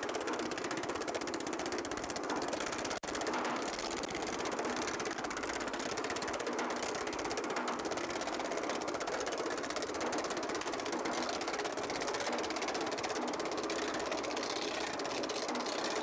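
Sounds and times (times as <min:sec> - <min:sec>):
power hammer pounding metal: 0:00.0 - 0:16.0.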